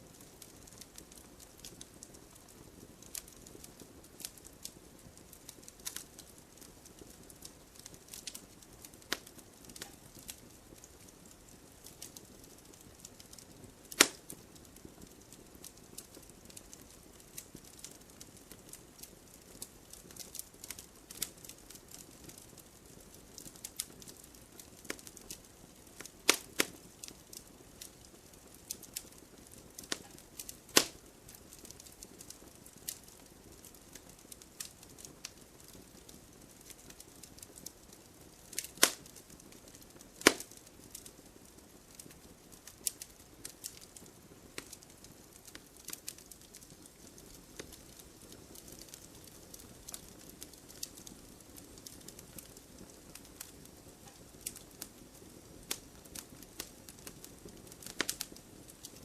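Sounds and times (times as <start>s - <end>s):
fire crackles: 0.0s - 59.0s
wood logs burning in fireplace: 0.0s - 59.0s.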